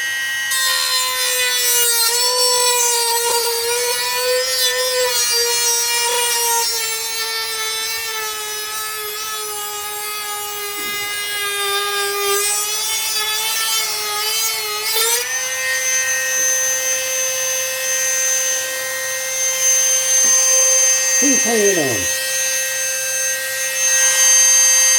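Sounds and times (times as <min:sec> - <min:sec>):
power tool cutting fiberglass: 0:00.0 - 0:24.9.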